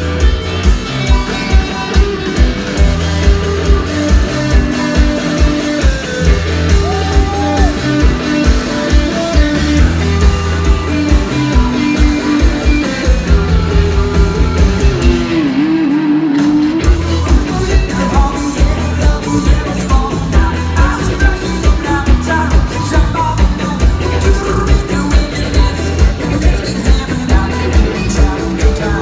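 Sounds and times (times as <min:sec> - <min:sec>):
steady drum beat: 0:00.0 - 0:15.8, 0:16.7 - 0:29.0
rock band playing live: 0:00.0 - 0:29.0.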